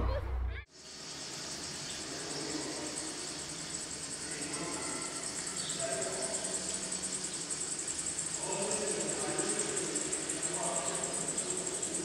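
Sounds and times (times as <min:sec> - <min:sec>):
insects chirring: 0:00.7 - 0:12.0.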